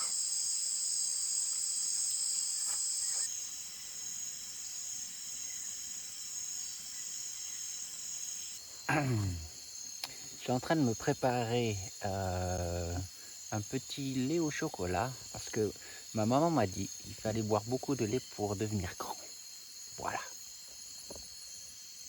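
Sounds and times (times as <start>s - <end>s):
insects buzzing in chorus: 0.0s - 22.0s.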